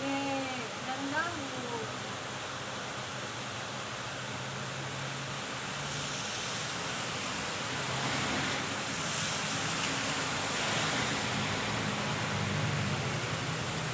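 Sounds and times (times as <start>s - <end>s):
waterfall roar: 0.0s - 13.9s.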